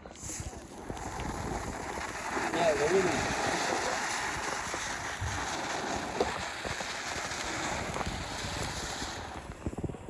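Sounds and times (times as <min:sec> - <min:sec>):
faint crackles: 0:00.0 - 0:10.0
firework spraying sparks: 0:00.0 - 0:10.0.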